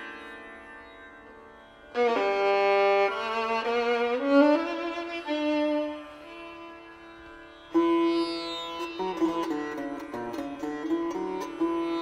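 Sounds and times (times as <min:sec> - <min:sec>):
bowed string melody: 0:00.0 - 0:12.0.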